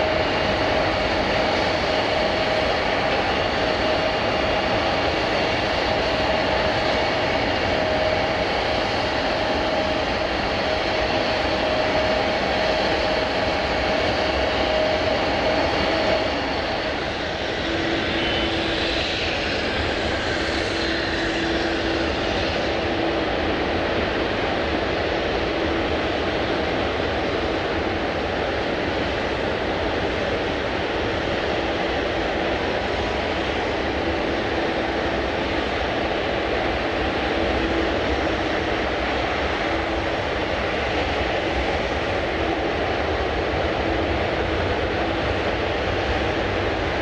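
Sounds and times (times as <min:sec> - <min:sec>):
high engine whine: 0:00.0 - 0:47.0
jet engines rushing: 0:00.0 - 0:47.0.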